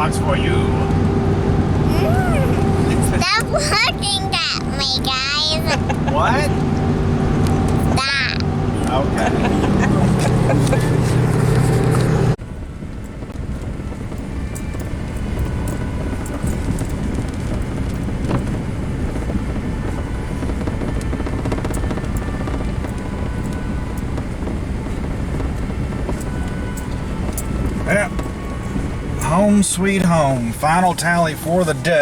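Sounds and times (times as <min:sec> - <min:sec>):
pickup truck rumble: 0:00.0 - 0:32.0.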